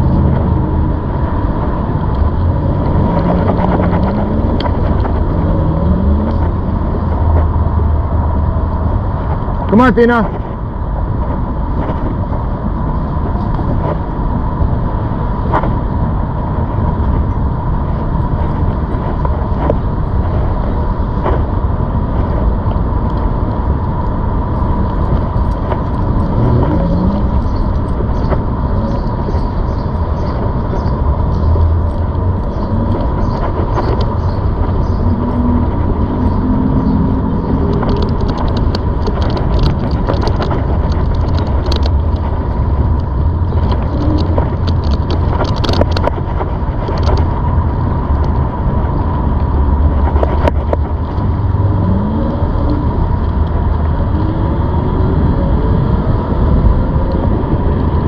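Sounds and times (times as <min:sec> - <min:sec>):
electric bike rumbling: 0:00.0 - 0:58.0
steady high whine: 0:00.0 - 0:58.0
wind noise: 0:00.0 - 0:58.0
tyre noise: 0:11.1 - 0:58.0.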